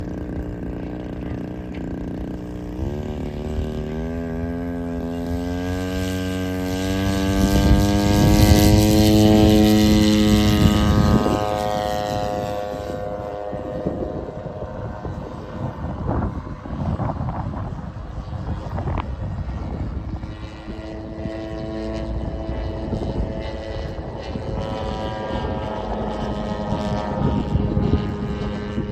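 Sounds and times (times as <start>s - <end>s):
model airplane propeller: 0.0s - 28.9s.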